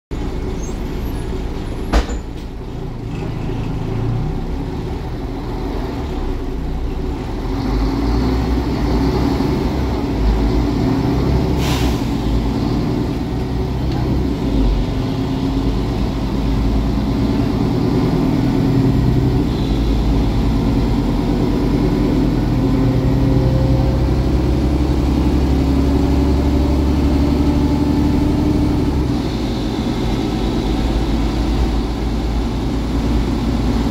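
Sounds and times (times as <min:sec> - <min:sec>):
bus diesel engine droning: 0:00.1 - 0:33.9
road noise: 0:00.1 - 0:33.9.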